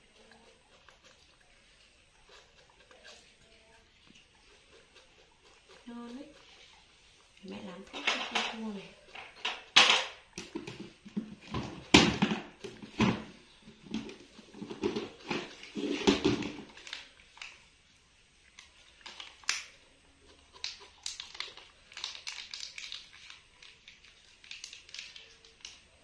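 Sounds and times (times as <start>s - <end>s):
monkey eating: 0.0s - 8.0s, 8.6s - 26.0s.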